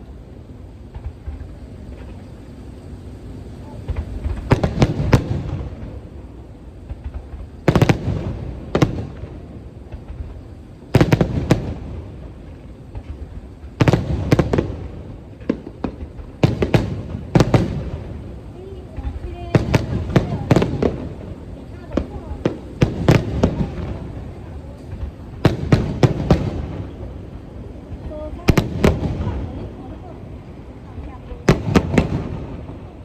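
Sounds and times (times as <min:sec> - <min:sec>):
firework shells bursting: 0:00.8 - 0:33.0.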